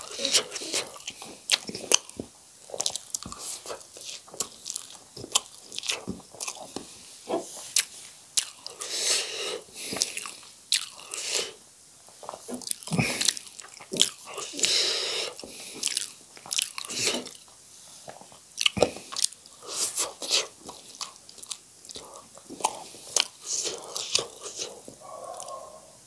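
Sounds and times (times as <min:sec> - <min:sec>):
wet chewing and mouth clicks: 0:00.0 - 0:08.9, 0:09.8 - 0:11.4, 0:12.1 - 0:25.6.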